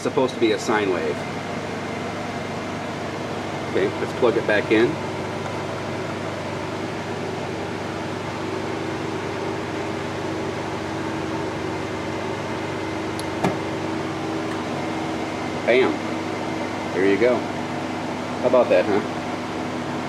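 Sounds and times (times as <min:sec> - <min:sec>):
electrical hum and fan hiss: 0:00.0 - 0:20.0.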